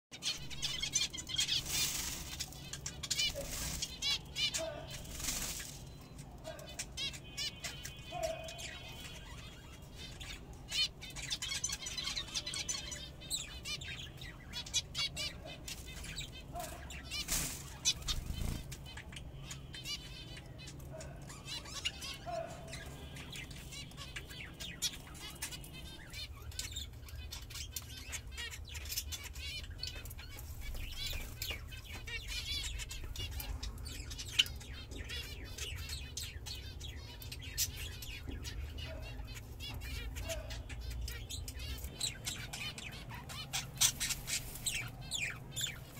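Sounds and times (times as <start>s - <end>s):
finches chirping and twittering: 0.1s - 45.9s.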